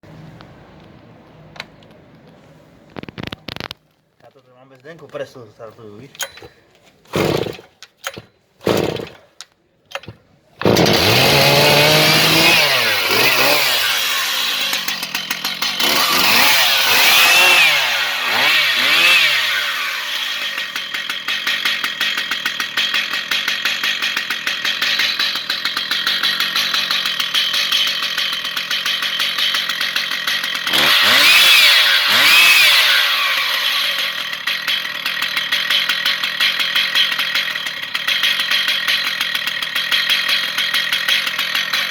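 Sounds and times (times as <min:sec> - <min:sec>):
chainsaw pull-started: 0:06.0 - 0:41.9
chainsaw idling and revving: 0:07.0 - 0:41.9.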